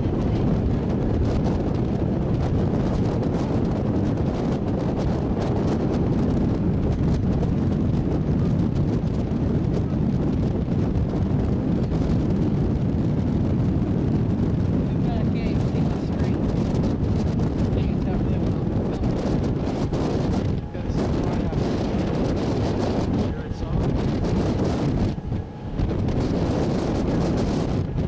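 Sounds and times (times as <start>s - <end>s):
low rumble of boat: 0.0s - 28.0s
wind buffeting microphone: 0.0s - 28.0s.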